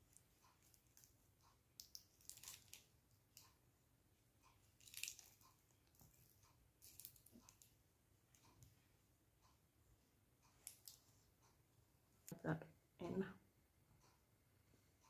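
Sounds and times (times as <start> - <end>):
soft crackles and clicks of handling: 0.0 - 12.4.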